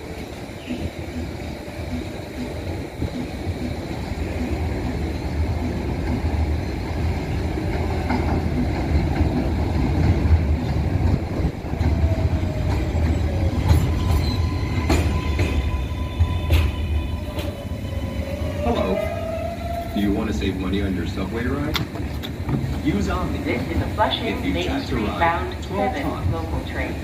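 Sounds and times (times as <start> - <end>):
subway train rumbling on rails: 0.0 - 27.0.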